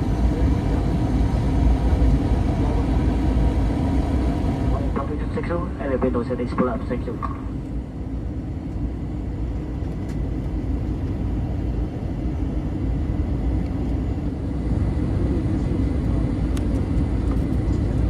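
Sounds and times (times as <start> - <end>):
aircraft cabin engine rumble: 0.0 - 18.0.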